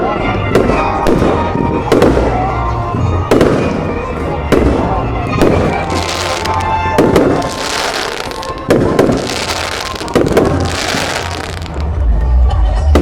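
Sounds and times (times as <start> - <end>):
fireworks bangs: 0.0 - 12.0
fireworks crackling: 0.1 - 12.1.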